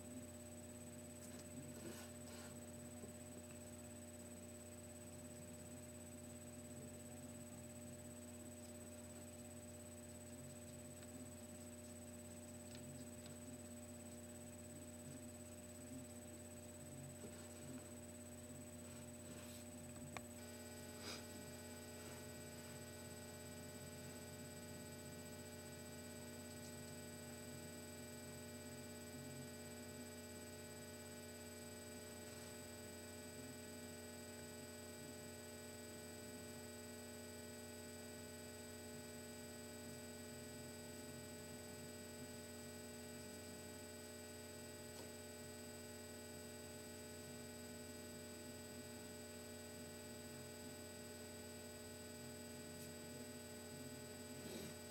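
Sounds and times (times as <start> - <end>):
electrical mains hum: 0.0 - 54.9.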